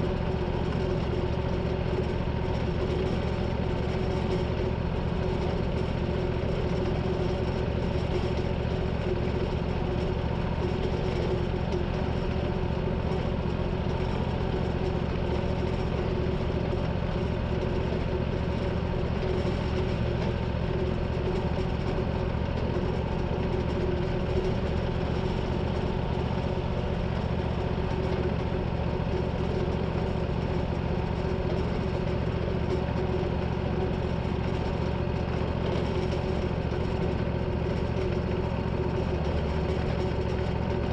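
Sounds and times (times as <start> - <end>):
gasoline engine running: 0.0 - 40.9.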